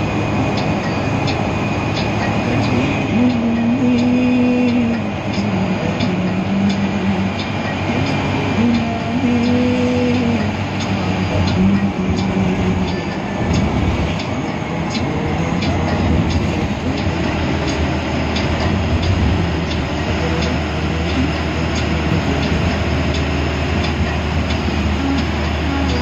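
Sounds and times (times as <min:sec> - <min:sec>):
bus engine drone: 0:00.0 - 0:26.0
road noise: 0:00.0 - 0:26.0.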